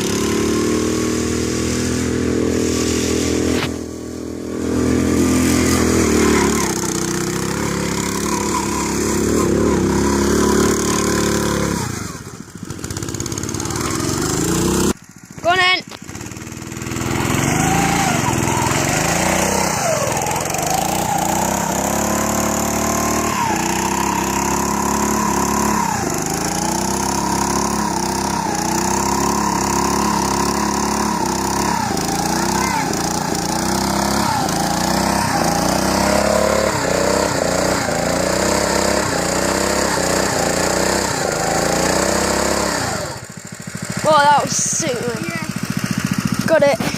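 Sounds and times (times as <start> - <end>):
go-kart engine revving: 0.0 - 46.9.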